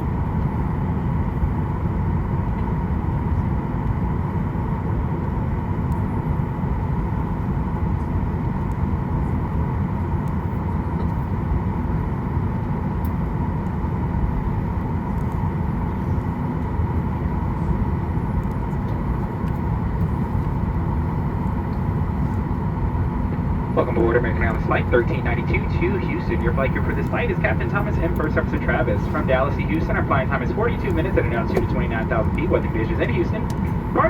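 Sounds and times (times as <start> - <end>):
airliner cabin rumble: 0.0 - 34.0
faint steady whine: 0.0 - 34.0.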